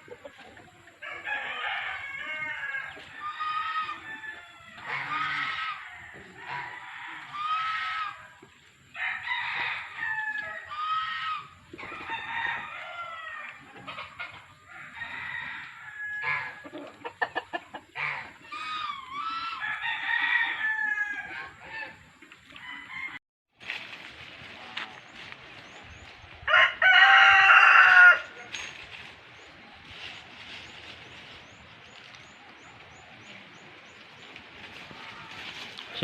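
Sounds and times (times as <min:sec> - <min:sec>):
chickens clucking and crowing: 0:00.0 - 0:23.2, 0:24.0 - 0:36.0.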